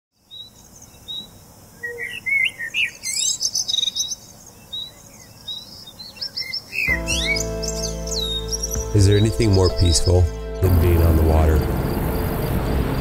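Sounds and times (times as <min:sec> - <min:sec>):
birds chirping and singing: 0:00.2 - 0:13.0
faint outdoor hiss: 0:00.2 - 0:13.0.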